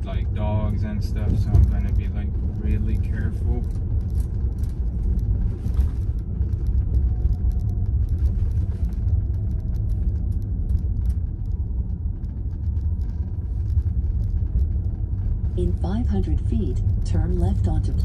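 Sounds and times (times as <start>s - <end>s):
road and tyre rumble in car: 0.0s - 18.0s.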